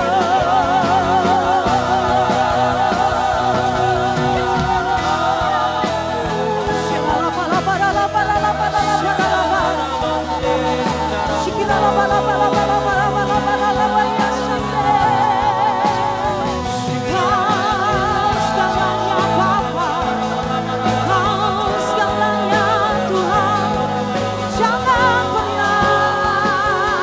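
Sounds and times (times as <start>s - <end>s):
band playing sustained chords: 0.0s - 27.0s
voices singing with vibrato: 0.0s - 27.0s.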